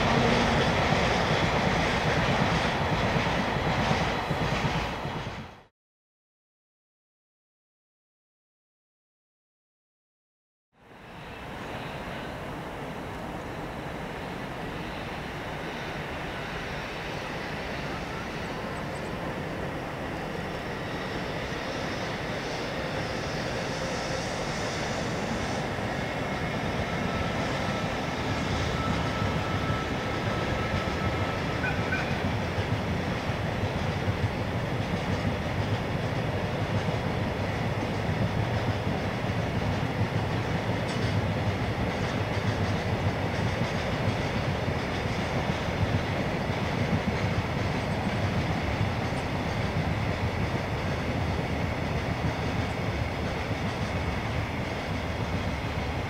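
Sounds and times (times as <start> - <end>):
train wheels rumbling on rails: 0.0 - 5.7, 10.8 - 56.0.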